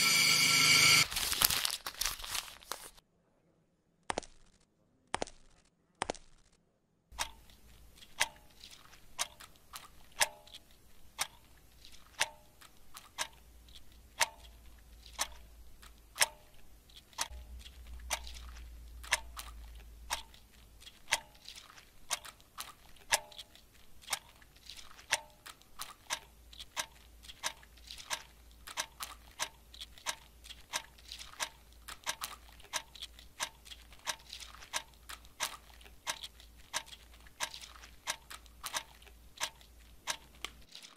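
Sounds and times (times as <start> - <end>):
clock ticking: 7.1 - 40.7.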